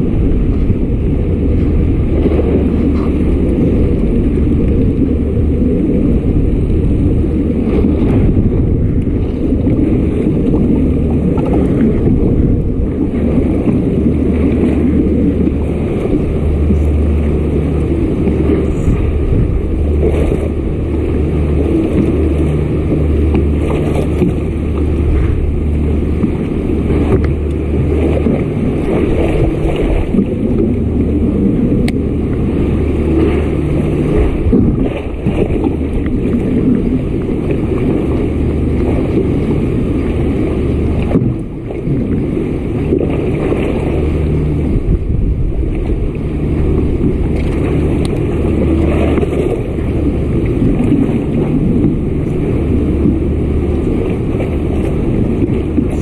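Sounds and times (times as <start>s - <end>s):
kayak motor humming: 0.0s - 56.0s
wind buffeting microphone: 0.0s - 56.0s.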